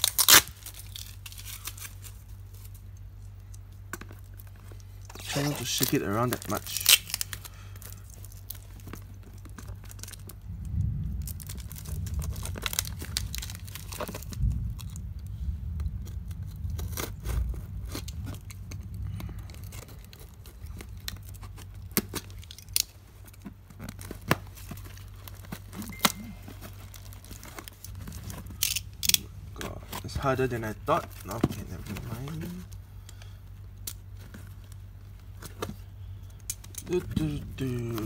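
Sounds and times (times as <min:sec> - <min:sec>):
plastic wrap crinkling: 0:00.0 - 0:38.0.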